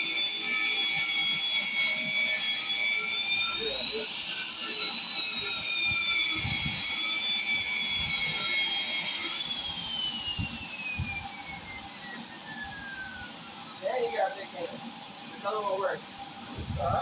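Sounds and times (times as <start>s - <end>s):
angle grinder wire brush whining: 0.0s - 15.8s.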